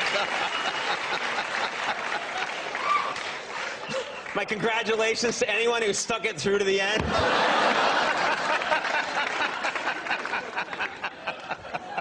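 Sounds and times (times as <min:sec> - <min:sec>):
audience laughing and clapping: 0:00.0 - 0:04.8, 0:07.0 - 0:12.0.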